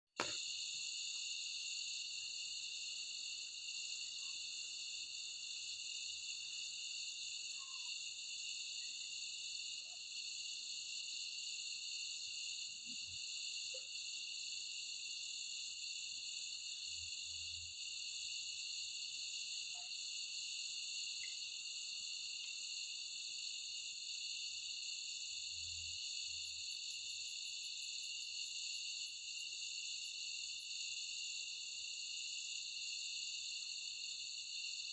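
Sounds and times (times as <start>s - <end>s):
high-pitched insect trill: 0.2s - 34.9s.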